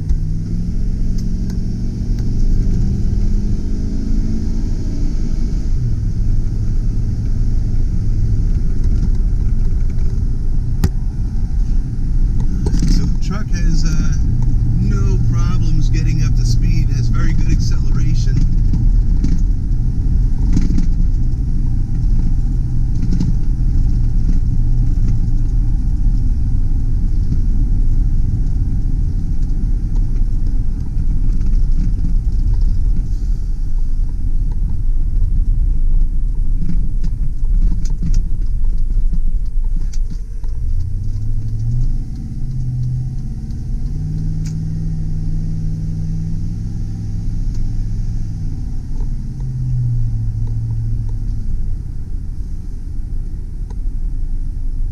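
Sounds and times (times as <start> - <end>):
pickup truck engine: 0.0 - 54.9
road rumble: 0.0 - 54.9.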